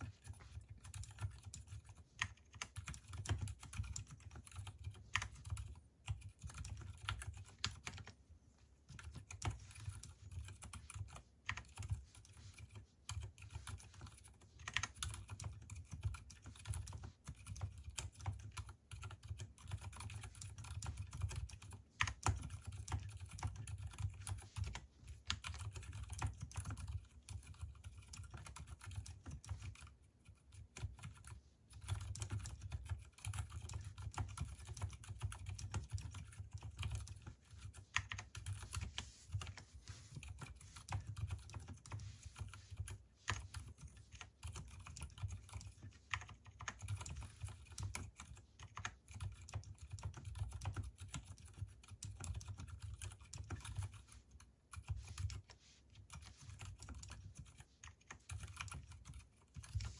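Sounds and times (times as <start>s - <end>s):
fast typing on mechanical keyboard: 0.0s - 59.9s.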